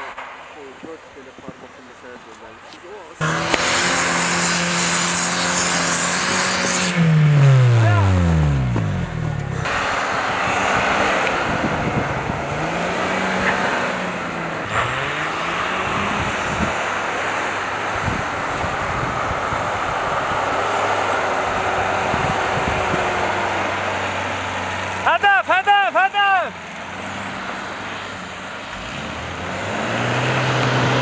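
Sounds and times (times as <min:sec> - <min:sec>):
engines labouring through snow: 0:00.0 - 0:31.0.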